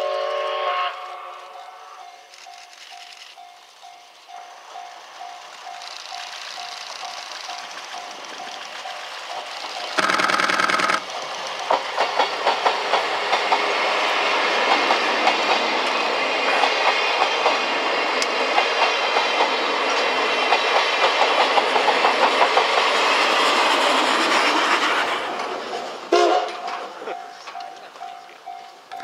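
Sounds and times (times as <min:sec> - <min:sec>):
train rolling rumble: 0:00.0 - 0:29.0
train wheels clickety-clack: 0:01.0 - 0:29.0.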